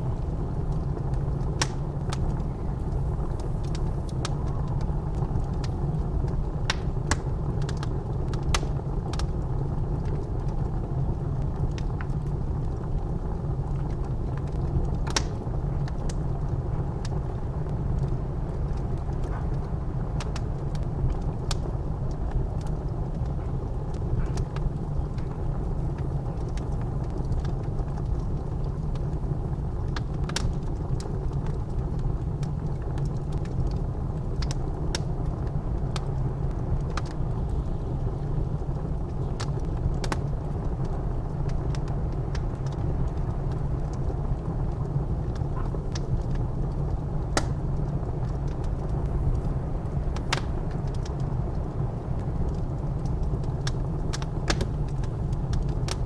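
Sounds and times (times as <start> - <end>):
blizzard wind rumbling: 0.0 - 56.0
wood fire crackling: 0.0 - 56.0.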